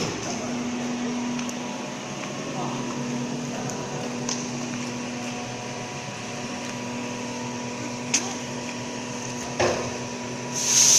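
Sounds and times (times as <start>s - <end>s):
popcorn machine humming: 0.0s - 10.9s.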